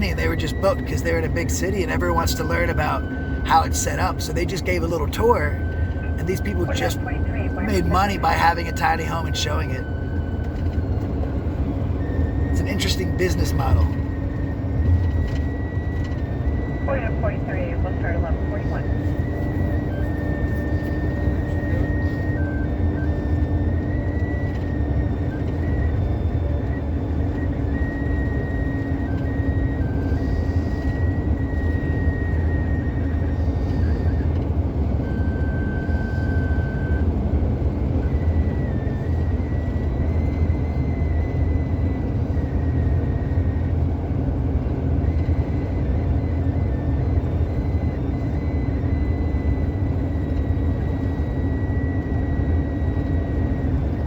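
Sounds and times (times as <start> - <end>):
car engine drone: 0.0 - 54.0
faint high whine: 0.0 - 54.0.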